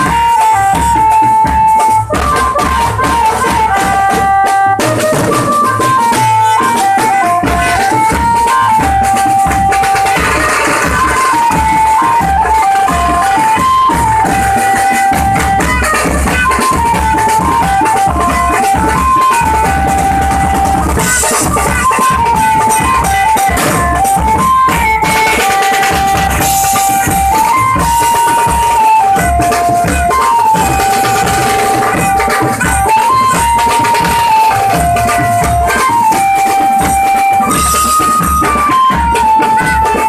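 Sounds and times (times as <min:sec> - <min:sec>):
held-note melody: 0:00.0 - 0:40.0
pounding drum beat: 0:00.0 - 0:40.0.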